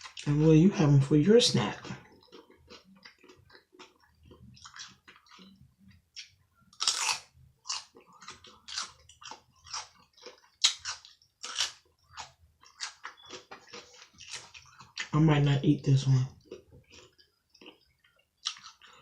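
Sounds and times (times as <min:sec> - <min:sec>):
person chewing food: 0:00.0 - 0:00.3, 0:01.7 - 0:15.2, 0:16.3 - 0:19.0.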